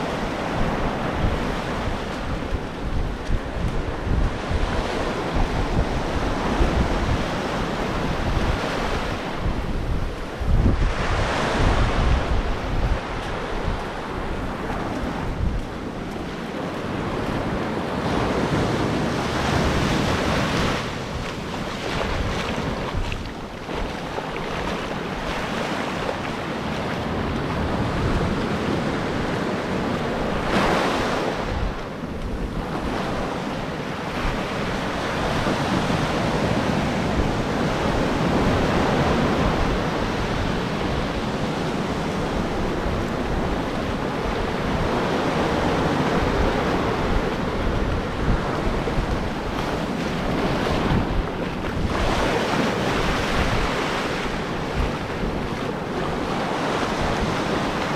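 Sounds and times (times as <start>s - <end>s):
ocean surf washing in: 0.0s - 57.9s
wind gusting on microphone: 0.0s - 57.9s.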